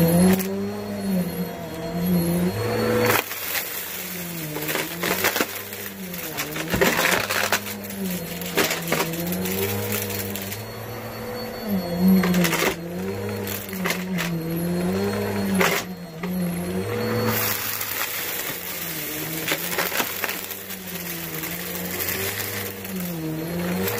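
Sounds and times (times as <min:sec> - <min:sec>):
vacuum cleaner motor: 0:00.0 - 0:23.9
debris clattering through vacuum: 0:02.5 - 0:23.9.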